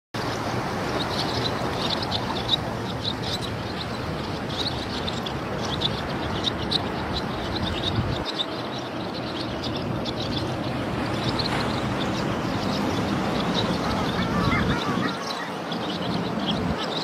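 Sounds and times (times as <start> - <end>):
wind and water rushing: 0.2 - 17.0
ducks calling: 0.6 - 17.0.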